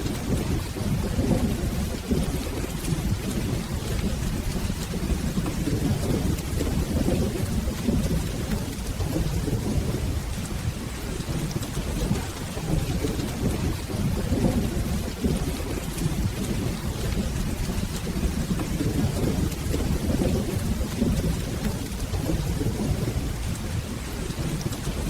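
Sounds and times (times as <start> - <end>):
rain falling: 0.0 - 25.0
rolling thunder rumble: 0.0 - 25.0.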